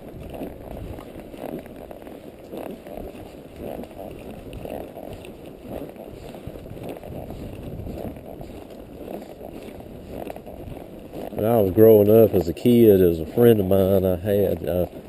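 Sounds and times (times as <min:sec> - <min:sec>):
horse walking: 0:00.0 - 0:15.0.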